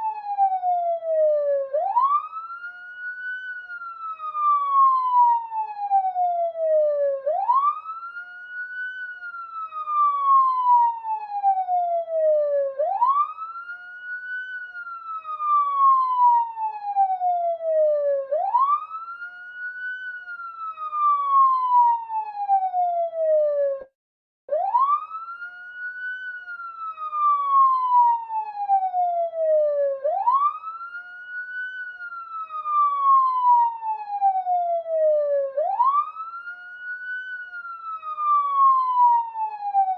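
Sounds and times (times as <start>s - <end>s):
police siren wailing: 0.0s - 23.9s, 24.5s - 39.9s.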